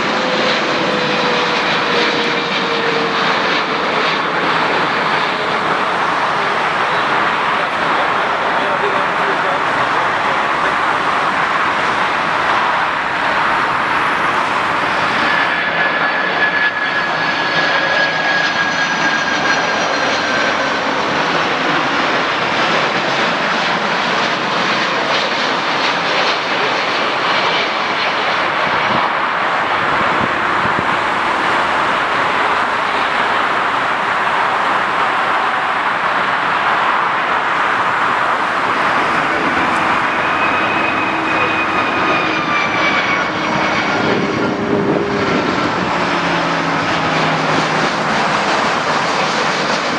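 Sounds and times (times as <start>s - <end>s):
airliner engines rushing and whining: 0.0s - 49.9s.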